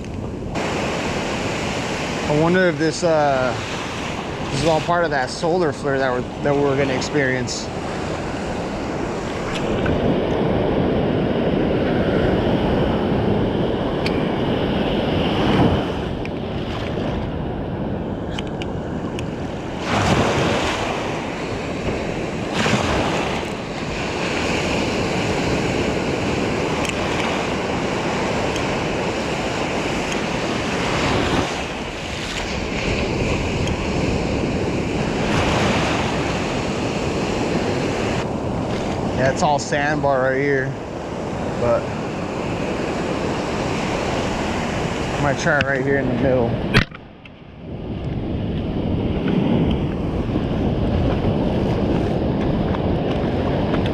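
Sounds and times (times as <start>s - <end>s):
ocean surf washing in: 0.0s - 53.9s
wind buffeting microphone: 0.0s - 53.9s.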